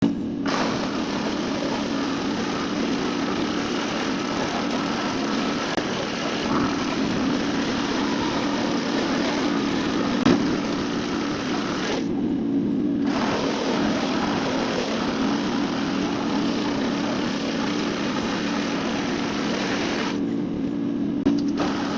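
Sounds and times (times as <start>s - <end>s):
construction machinery droning: 0.0s - 21.9s.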